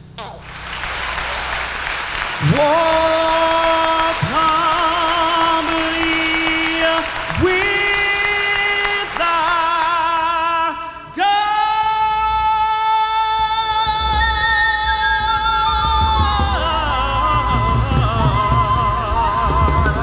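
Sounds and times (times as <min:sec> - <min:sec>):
person singing with vibrato: 0:02.4 - 0:20.0.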